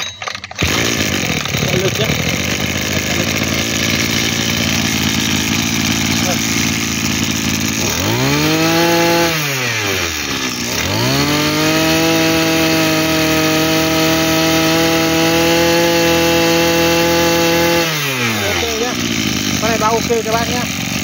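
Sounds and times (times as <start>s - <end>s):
brush-cutter engine revving: 0.4s - 21.0s.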